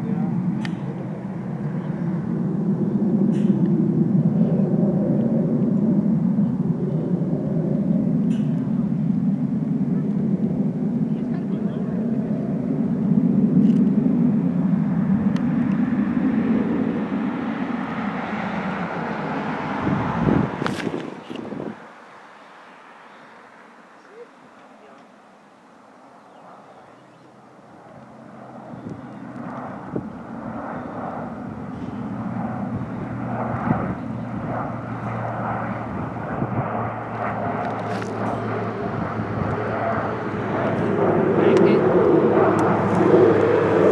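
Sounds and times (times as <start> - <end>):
airplane engine drone: 0.0 - 43.9.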